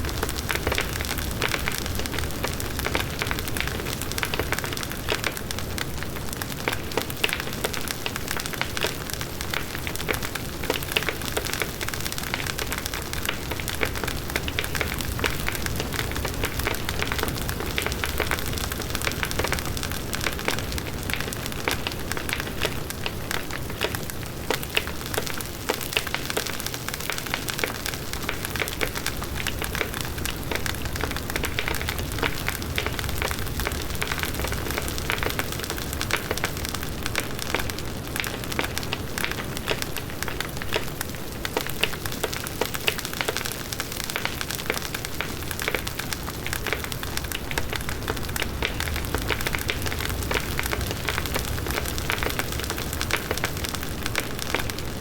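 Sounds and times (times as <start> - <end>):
burning wood crackling: 0.0 - 55.0.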